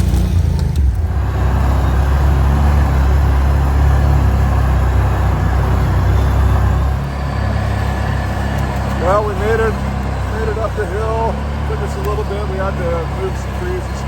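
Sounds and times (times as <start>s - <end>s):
atv engine under load: 0.0s - 14.0s.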